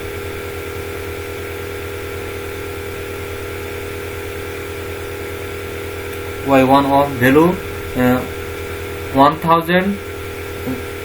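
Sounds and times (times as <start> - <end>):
machine hum with flutter: 0.0 - 11.0.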